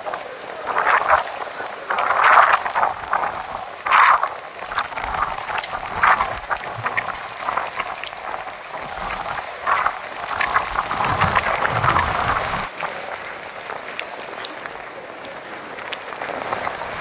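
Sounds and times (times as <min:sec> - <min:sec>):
heavy rain spattering: 0:00.0 - 0:17.0
low wind rumble: 0:00.0 - 0:17.0.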